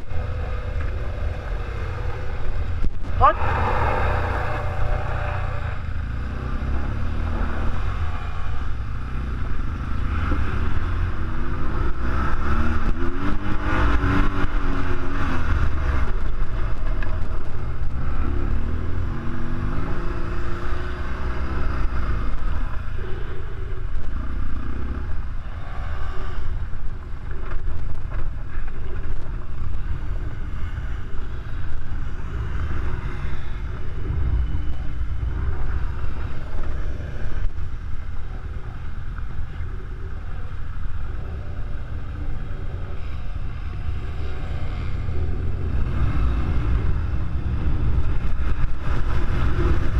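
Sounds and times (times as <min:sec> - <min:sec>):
motorcycle engine revving: 0:00.0 - 0:49.9
wind rumble on microphone: 0:00.0 - 0:49.9.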